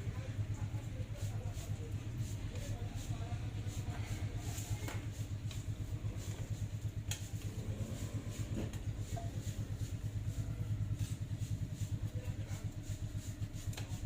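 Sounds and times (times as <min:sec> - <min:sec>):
low pulsing engine-like rumble: 0:00.0 - 0:14.0.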